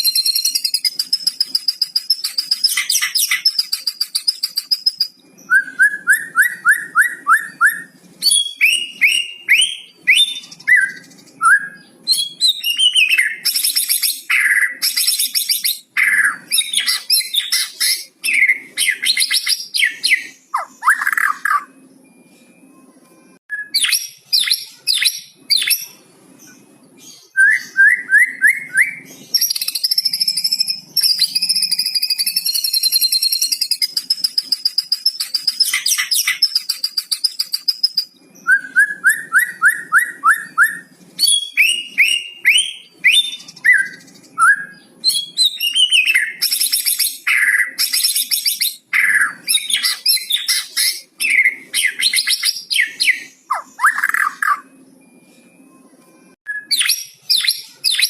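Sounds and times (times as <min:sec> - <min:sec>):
songbird singing varied song: 0:00.0 - 0:22.1, 0:23.5 - 0:54.8.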